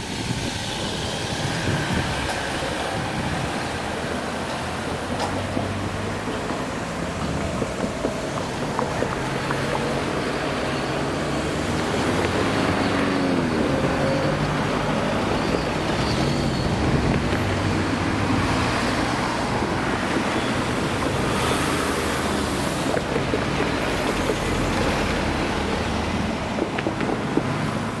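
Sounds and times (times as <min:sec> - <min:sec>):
cars driving past: 0:00.0 - 0:28.0.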